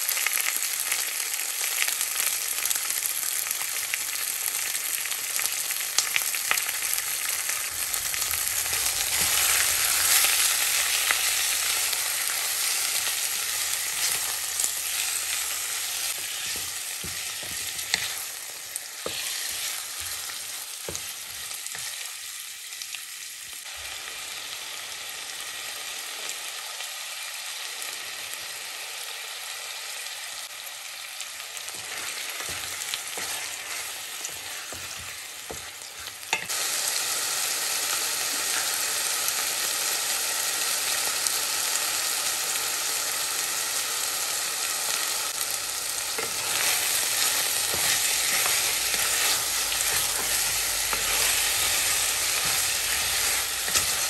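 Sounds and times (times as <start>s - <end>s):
chicken sizzling in a pot: 0.0s - 54.0s.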